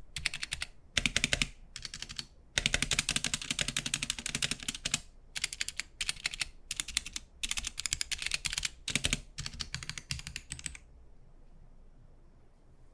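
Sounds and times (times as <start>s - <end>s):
mechanical keyboard typing: 0.1s - 10.9s.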